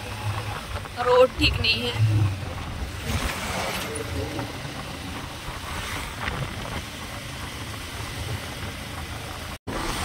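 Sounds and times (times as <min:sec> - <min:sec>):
motorcycle engine and road rumble: 0:00.0 - 0:10.0
wind rushing over microphone: 0:00.0 - 0:10.0.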